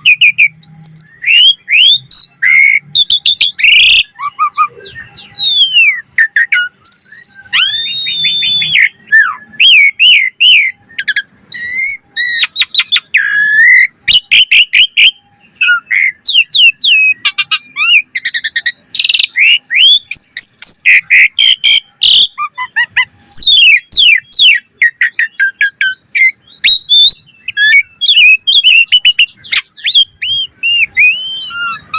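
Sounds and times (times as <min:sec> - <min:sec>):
starling singing: 0:00.0 - 0:31.9.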